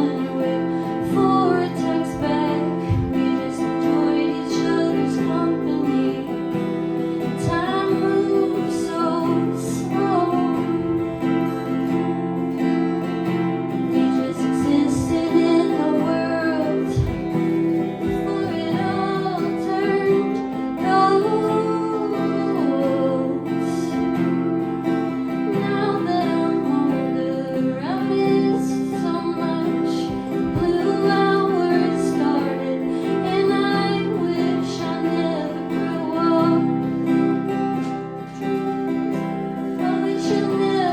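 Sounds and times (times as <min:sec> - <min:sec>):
acoustic guitar strumming: 0:00.0 - 0:40.9
woman singing: 0:00.0 - 0:40.9.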